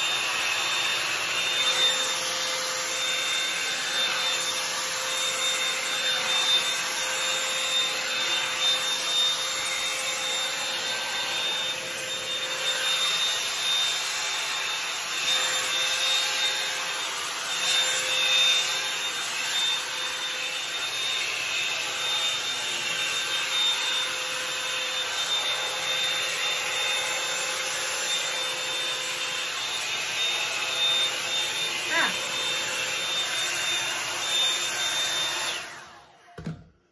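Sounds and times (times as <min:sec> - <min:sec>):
hot-air brush fan whining: 0:00.0 - 0:36.3.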